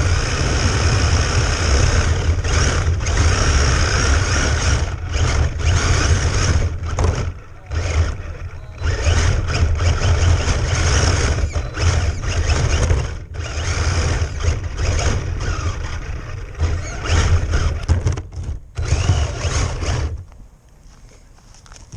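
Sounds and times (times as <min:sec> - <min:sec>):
rc car motor and tyres on ice: 0:00.0 - 0:21.9.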